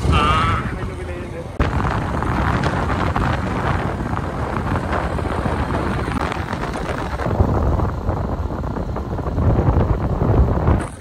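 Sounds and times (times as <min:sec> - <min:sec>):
low road rumble: 0:00.0 - 0:11.0
wind rushing over microphone: 0:00.0 - 0:11.0.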